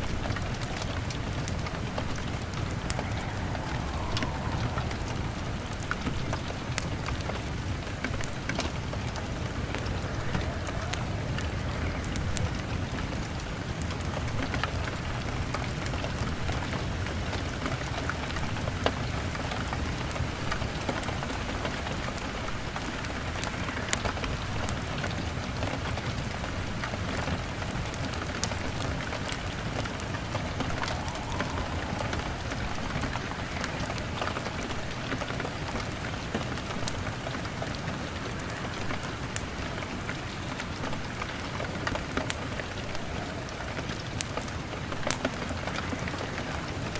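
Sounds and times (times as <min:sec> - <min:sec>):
rain on a window: 0:00.0 - 0:46.9.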